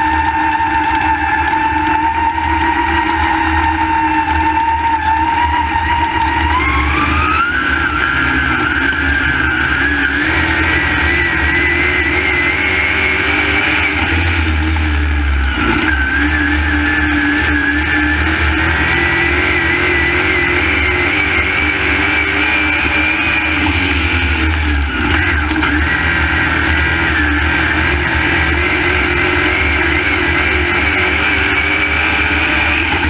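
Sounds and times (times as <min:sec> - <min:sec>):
race car engine revving: 0:00.0 - 0:33.0.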